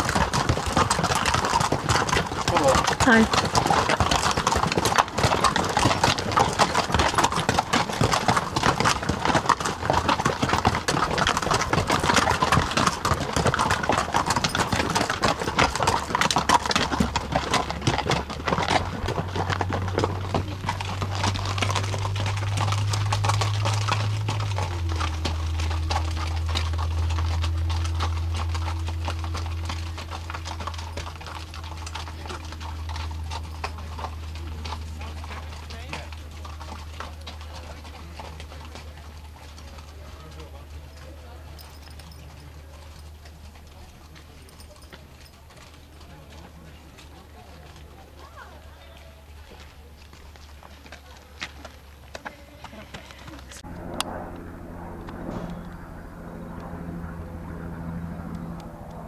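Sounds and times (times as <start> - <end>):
hooves clip-clopping on rocks: 0.0 - 54.2
low steady rumble: 8.4 - 52.1, 53.0 - 59.0.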